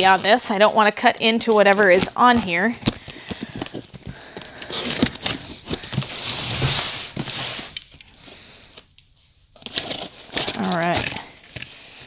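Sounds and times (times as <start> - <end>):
packing tape clicks and crackles: 1.4 - 12.0.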